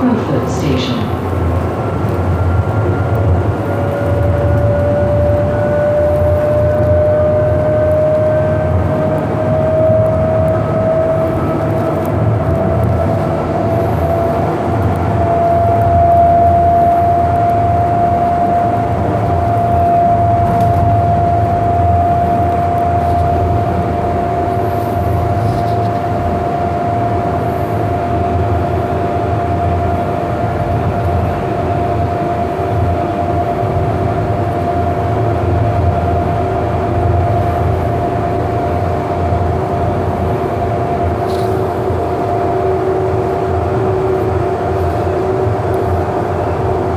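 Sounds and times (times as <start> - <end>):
train motor whine: 0.0 - 46.9
wheels rumbling on rails: 0.0 - 46.9.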